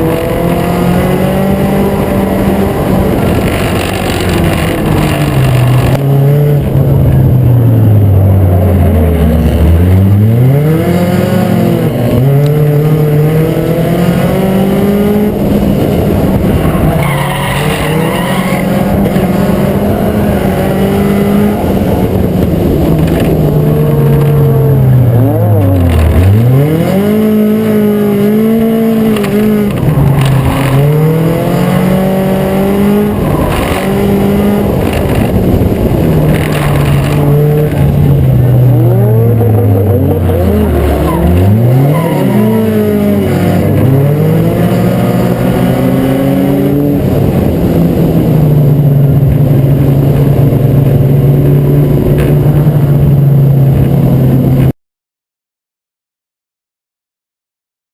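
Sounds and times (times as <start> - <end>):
race car engine revving: 0.0 - 54.7.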